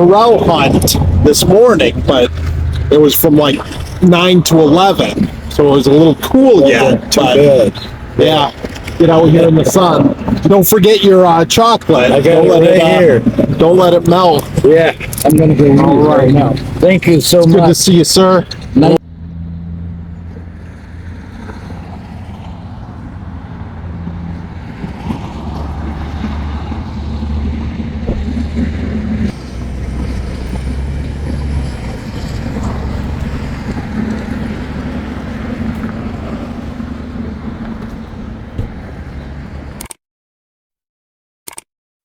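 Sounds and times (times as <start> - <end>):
vehicle engine running: 0.0 - 39.8
road noise: 0.0 - 40.0.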